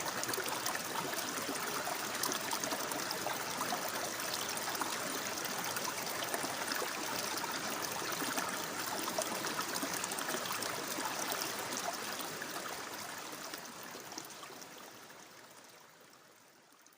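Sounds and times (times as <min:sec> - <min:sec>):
water trickling and splashing: 0:00.0 - 0:16.9.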